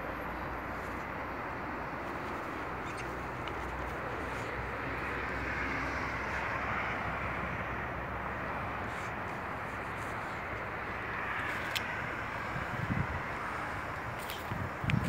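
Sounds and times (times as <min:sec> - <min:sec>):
outdoor hiss-like rumble: 0:00.0 - 0:15.0.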